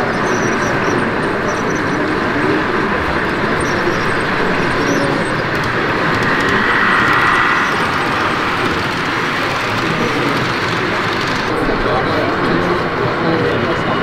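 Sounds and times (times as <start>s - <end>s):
high-pitched whine: 0.0s - 11.5s
busy hall din: 0.0s - 14.0s
model trains running: 0.0s - 14.0s.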